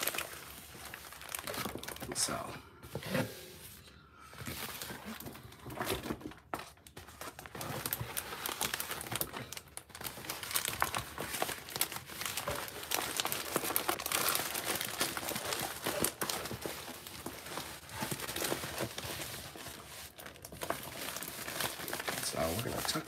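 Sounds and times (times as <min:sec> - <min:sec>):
plastic film crinkling: 0:00.0 - 0:02.4, 0:04.4 - 0:23.0.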